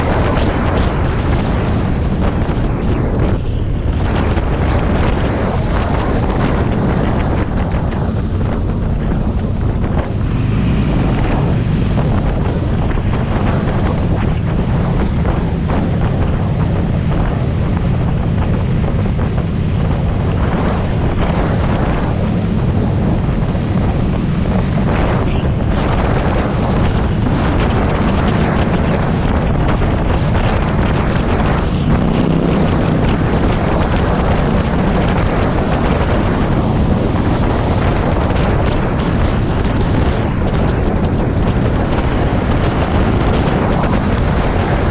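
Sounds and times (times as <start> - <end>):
motorcycle engine running: 0.0 - 44.9
wind buffeting microphone: 0.0 - 44.9.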